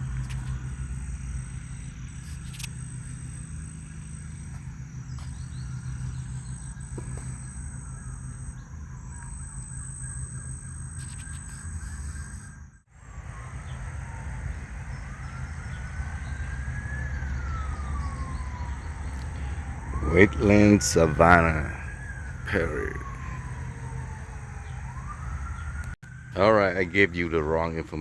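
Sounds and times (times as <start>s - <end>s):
distant siren wailing: 0.0s - 28.0s
steady low rumble: 0.0s - 28.0s.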